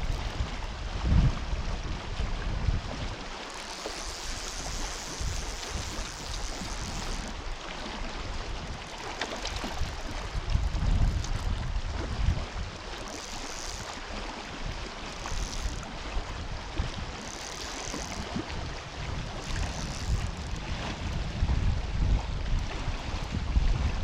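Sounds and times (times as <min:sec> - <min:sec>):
wind buffeting microphone: 0:00.0 - 0:03.4, 0:04.0 - 0:24.0.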